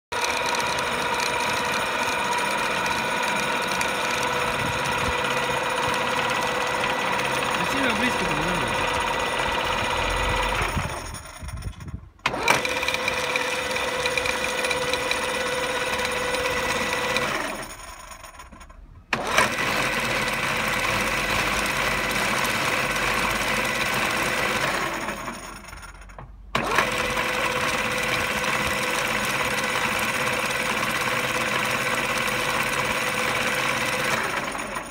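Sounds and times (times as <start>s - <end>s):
lathe gear whine: 0.2s - 11.6s, 12.2s - 34.9s.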